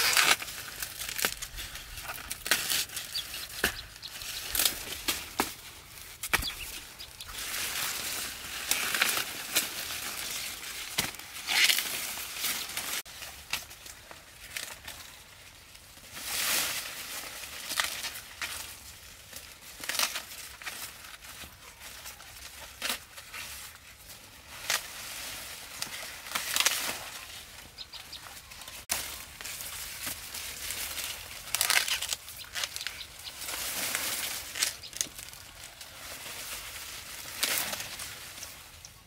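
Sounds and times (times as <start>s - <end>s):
rustling and crinkling: 0.0s - 39.0s.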